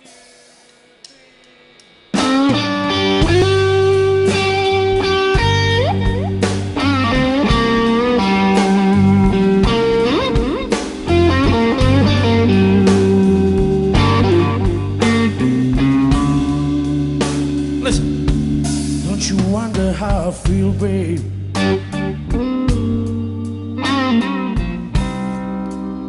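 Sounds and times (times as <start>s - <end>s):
electric blues band playing: 0.0s - 26.0s
electric guitar bent notes: 0.0s - 26.0s.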